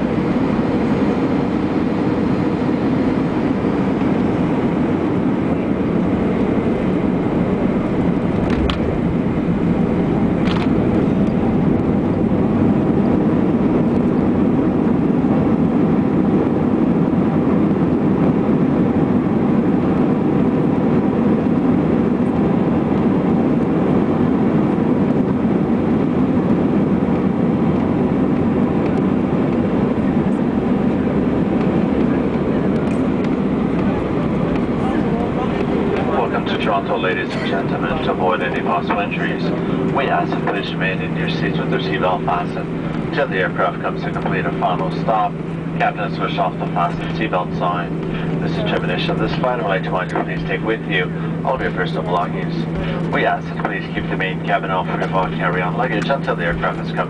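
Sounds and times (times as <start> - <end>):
airplane engines and airflow rumble: 0.0 - 57.0.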